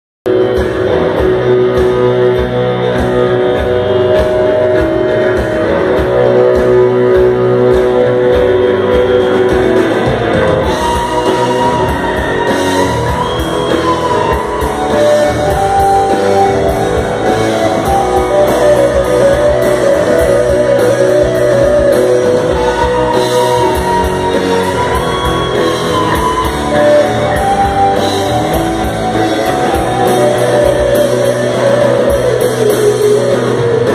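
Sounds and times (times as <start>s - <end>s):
live rock band playing: 0.3s - 33.9s.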